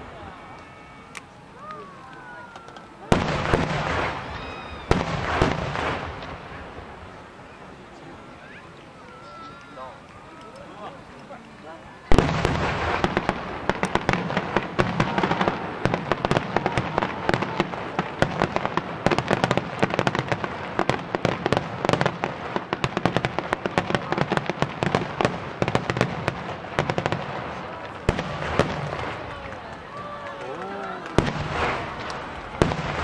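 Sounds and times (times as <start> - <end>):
fireworks booming and crackling: 0.0 - 9.9, 12.0 - 33.0.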